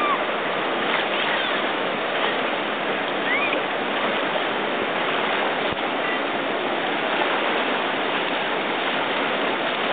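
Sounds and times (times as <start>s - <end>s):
whitewater rushing: 0.0s - 9.9s.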